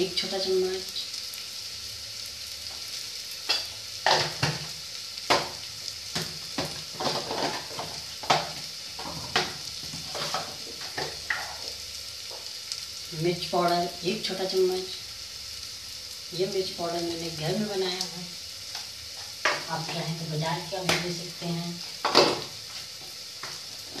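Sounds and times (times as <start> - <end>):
food sizzling in a pot: 0.0 - 24.0.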